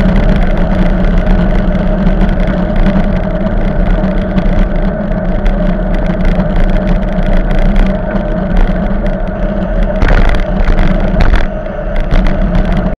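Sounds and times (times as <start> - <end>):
small clicks and rattles: 0.0 - 13.0
steady low hum: 0.0 - 13.0
wind rushing over microphone: 0.0 - 13.0.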